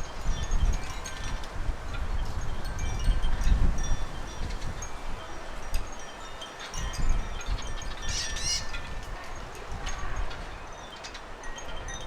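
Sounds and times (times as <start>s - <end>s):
rustling leaves: 0.0s - 12.0s
wind gusting on microphone: 0.0s - 12.0s.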